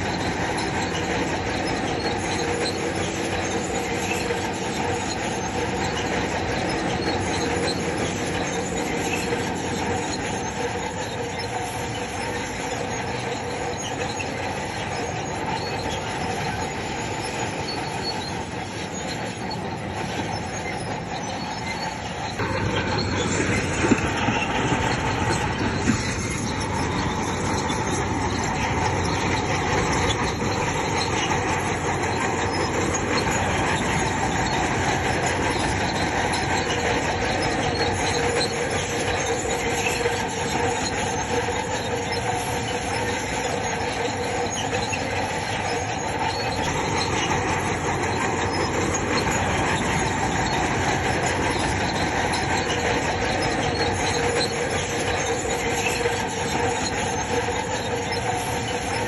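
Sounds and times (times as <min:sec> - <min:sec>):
diesel engine under load: 0:00.0 - 0:59.0
steel tracks squealing and clanking: 0:00.0 - 0:59.0.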